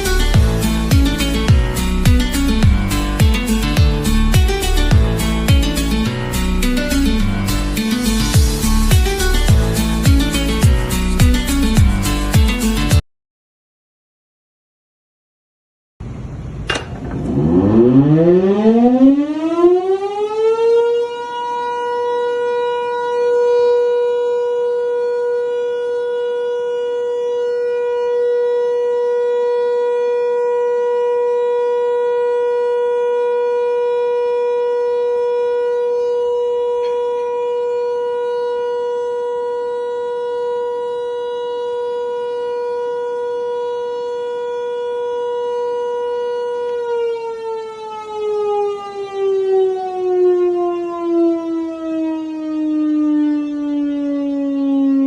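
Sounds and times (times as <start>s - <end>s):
alarm siren wailing: 0.0s - 13.0s, 17.1s - 55.0s.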